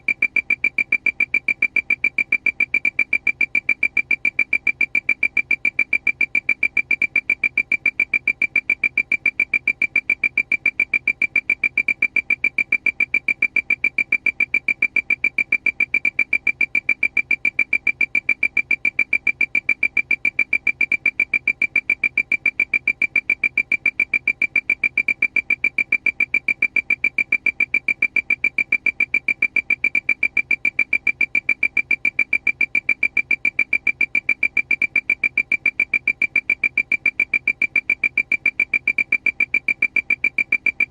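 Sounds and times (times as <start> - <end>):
rapid high electronic beeps: 0.0 - 40.9.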